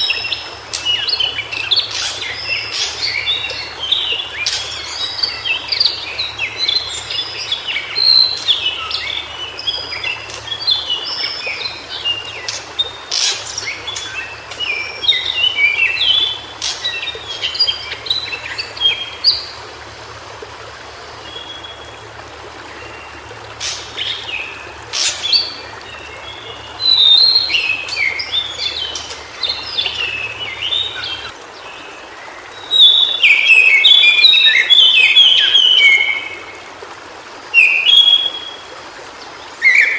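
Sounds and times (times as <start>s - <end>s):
bird warbling song: 0.0s - 19.6s, 21.2s - 36.6s, 37.5s - 38.8s, 39.4s - 39.9s.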